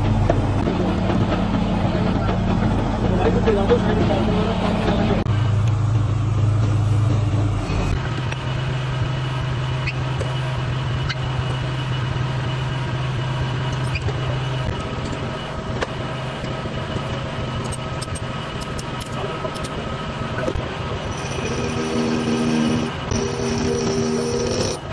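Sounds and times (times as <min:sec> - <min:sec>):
machine shop equipment humming: 0:00.0 - 0:24.9.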